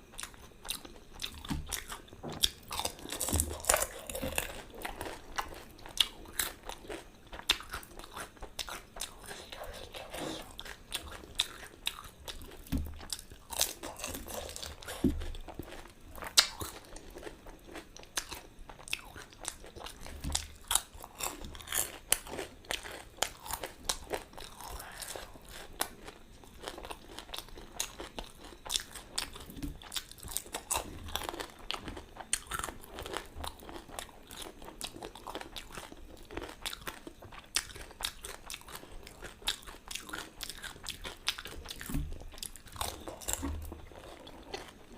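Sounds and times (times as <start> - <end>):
crunchy food chewing: 0.0 - 44.9.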